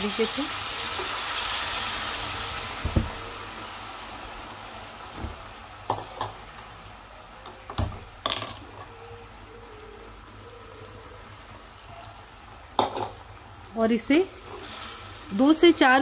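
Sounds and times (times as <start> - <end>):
soup sizzling and bubbling in a pan: 0.0 - 8.2, 10.2 - 16.0.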